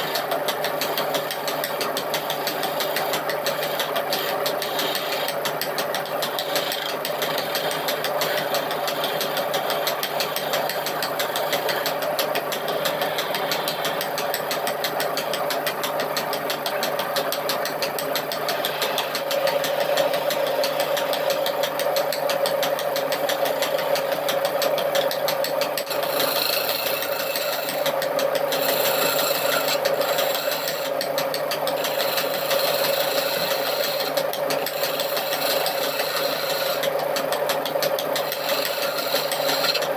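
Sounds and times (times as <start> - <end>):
power tool running against wood: 0.0 - 39.9.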